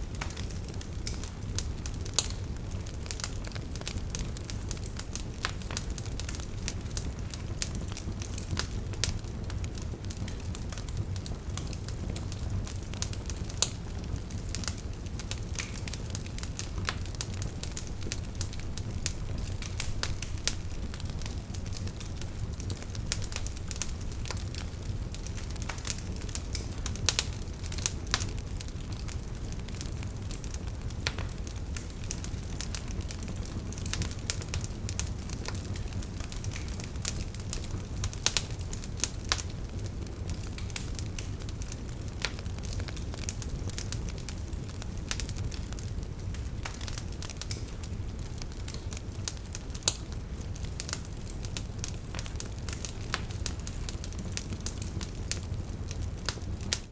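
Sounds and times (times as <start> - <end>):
campfire crackling: 0.0 - 56.9
low rumble of flames: 0.0 - 56.9
sharp pops of fire: 0.1 - 56.9.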